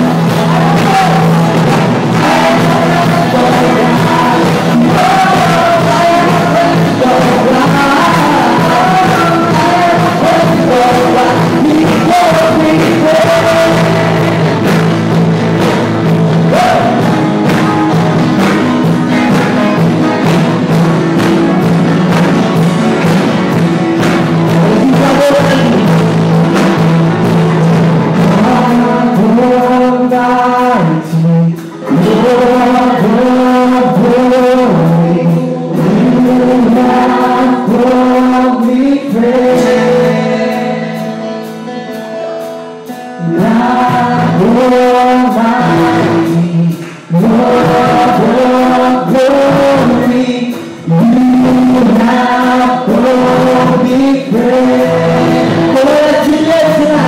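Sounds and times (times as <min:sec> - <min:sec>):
electric guitars: 0:00.0 - 0:57.0
singers with praise band: 0:00.0 - 0:57.0.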